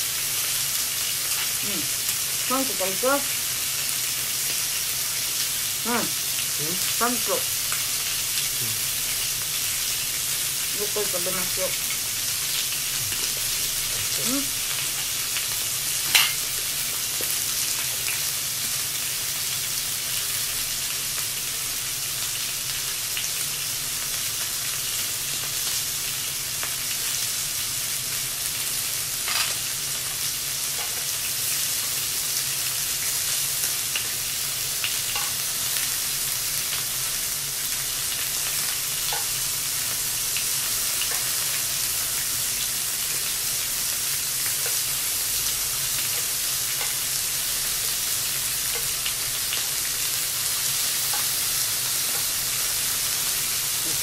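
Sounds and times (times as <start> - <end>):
meat sizzling on grill plate: 0.0 - 54.0.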